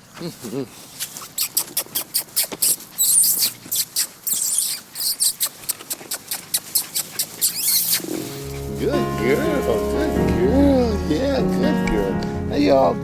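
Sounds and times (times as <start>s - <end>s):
puppies squeaking: 1.0s - 11.7s.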